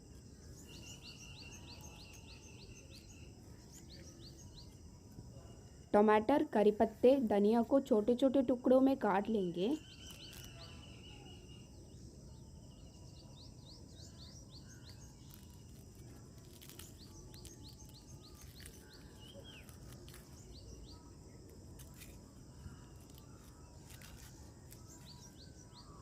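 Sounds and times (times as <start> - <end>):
small birds chirping: 0.0 - 5.8, 9.2 - 26.0.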